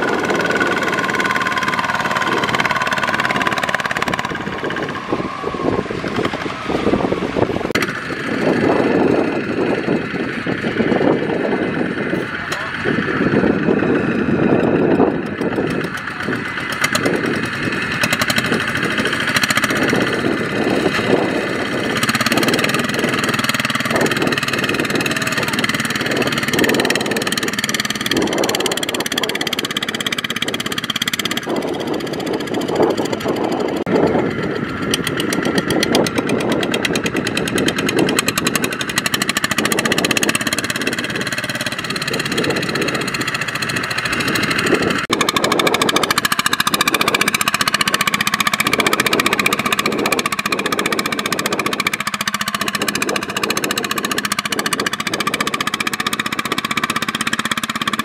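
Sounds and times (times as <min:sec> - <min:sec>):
diesel tractor engine knocking: 0:00.0 - 0:58.0.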